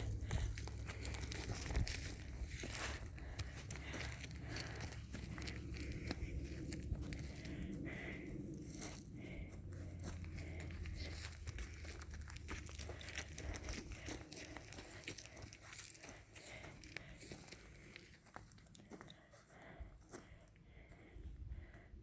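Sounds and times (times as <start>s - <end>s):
low rumble: 0.0s - 18.8s
dry crunching and crackling: 0.0s - 19.3s.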